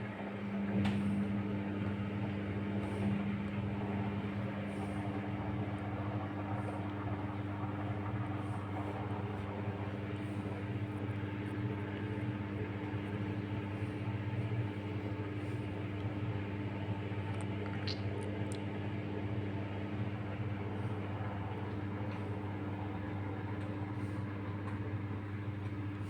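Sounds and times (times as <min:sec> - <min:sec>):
washing machine running: 0:00.0 - 0:26.0.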